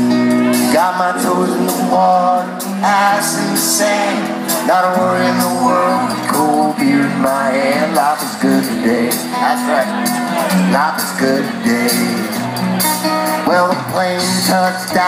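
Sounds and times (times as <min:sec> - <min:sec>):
sliding melodic lead line: 0:00.0 - 0:15.0.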